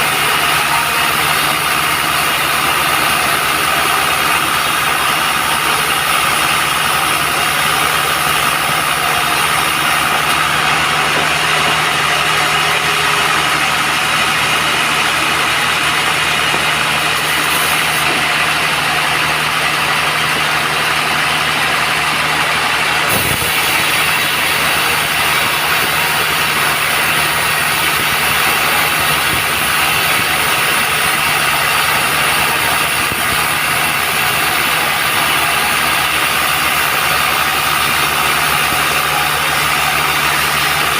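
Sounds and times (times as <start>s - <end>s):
band sawmill drone: 0.0s - 40.9s.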